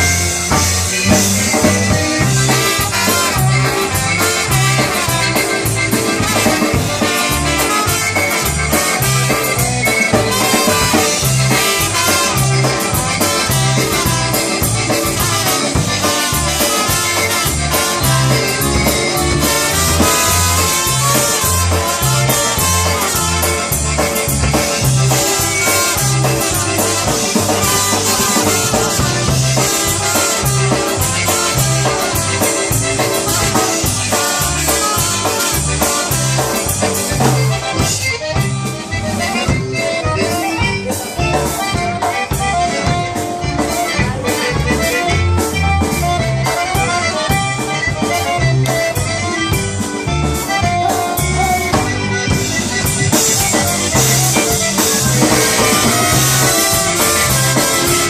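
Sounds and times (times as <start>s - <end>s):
bouncing bass line: 0.0s - 58.0s
polka band playing: 0.0s - 58.0s
steady drum beat: 0.0s - 58.0s.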